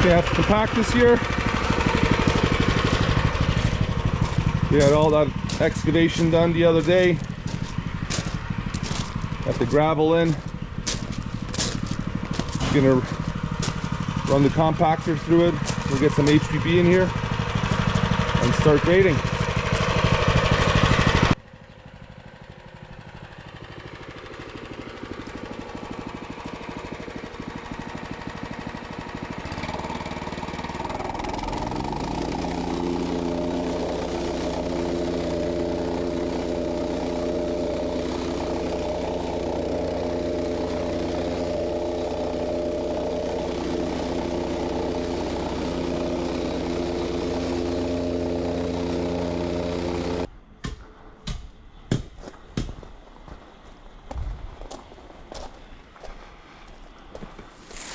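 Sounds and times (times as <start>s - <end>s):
gas engine revving: 0.0s - 21.4s, 25.2s - 50.3s.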